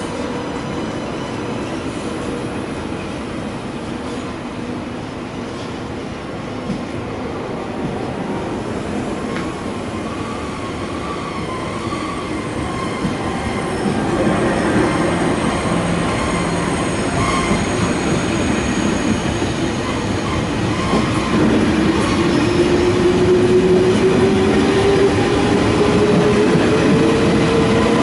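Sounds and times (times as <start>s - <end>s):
high-speed train rolling past: 0.0s - 28.0s.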